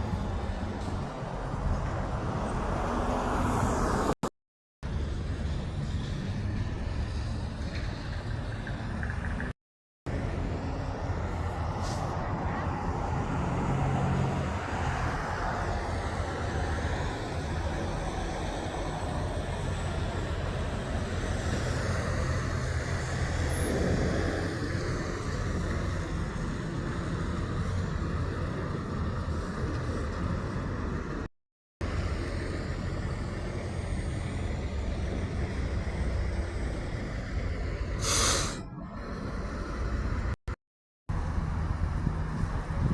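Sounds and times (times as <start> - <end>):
road traffic rumble: 0.0 - 4.2, 4.8 - 40.5, 41.1 - 42.9.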